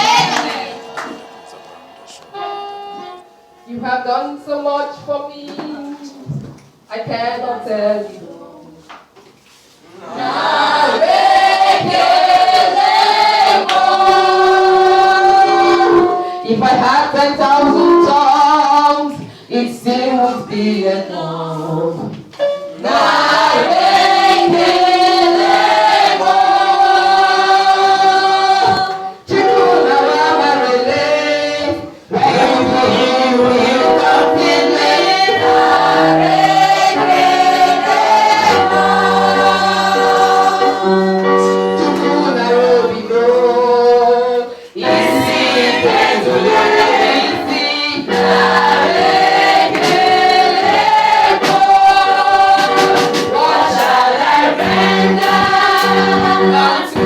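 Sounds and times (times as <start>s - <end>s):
group singing gospel song: 0.0s - 5.0s, 9.5s - 57.0s.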